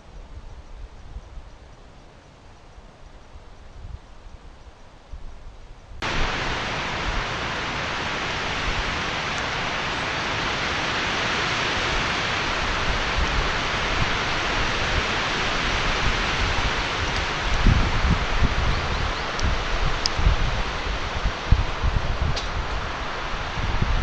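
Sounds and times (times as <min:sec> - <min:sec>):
steady even hiss: 0:00.0 - 0:24.0.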